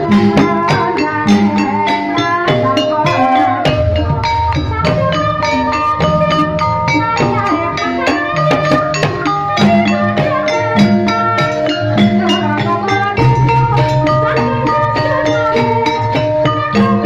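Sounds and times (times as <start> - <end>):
gamelan music: 0.0 - 17.0
steady drum rhythm: 0.0 - 17.0
struck tuned percussion ringing: 0.0 - 17.0.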